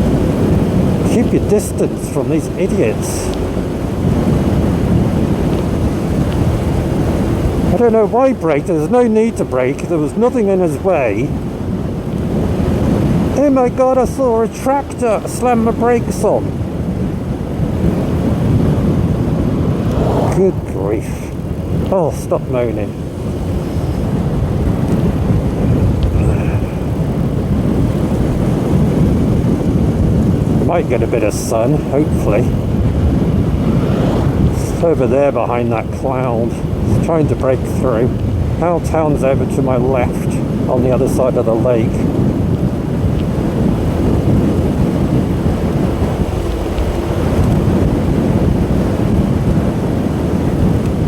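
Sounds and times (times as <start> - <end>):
motorbike running and road noise: 0.0 - 51.0
wind buffeting microphone: 0.0 - 51.0.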